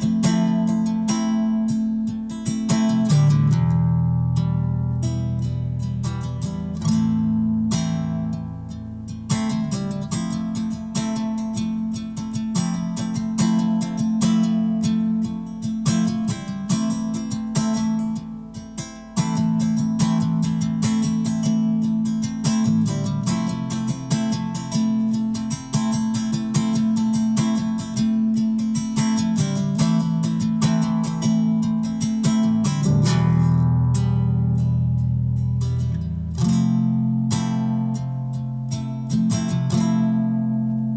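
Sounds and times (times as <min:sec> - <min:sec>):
nylon-string acoustic guitar: 0:00.0 - 0:40.9.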